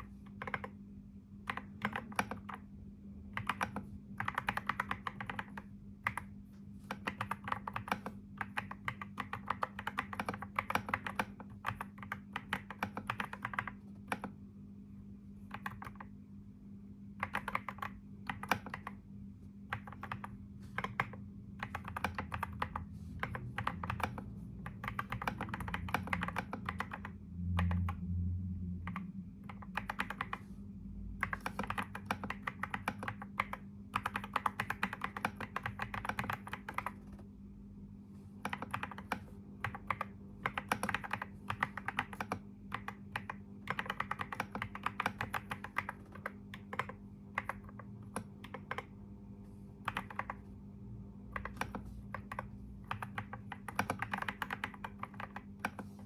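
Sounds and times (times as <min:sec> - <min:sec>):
typing on computer keyboard: 0:00.0 - 0:00.8, 0:01.4 - 0:02.7, 0:03.3 - 0:14.4, 0:15.4 - 0:16.2, 0:17.2 - 0:19.0, 0:19.7 - 0:28.0, 0:28.8 - 0:30.5, 0:31.2 - 0:37.3, 0:38.4 - 0:49.0, 0:49.8 - 0:50.5, 0:51.3 - 0:56.0
faint steady hum: 0:00.0 - 0:56.0.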